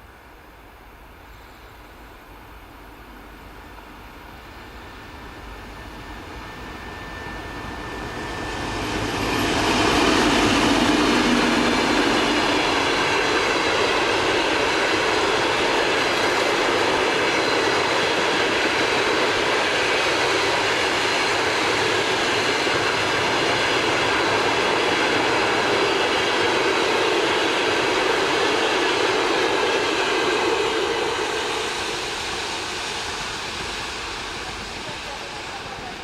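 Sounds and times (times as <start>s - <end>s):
train running along rails: 0.0s - 36.0s.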